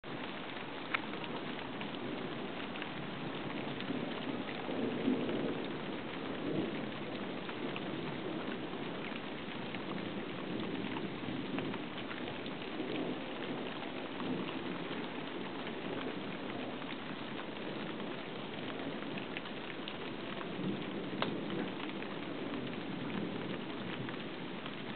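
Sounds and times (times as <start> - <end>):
heavy rain falling: 0.0 - 24.9
thunder rumbling: 1.9 - 24.9.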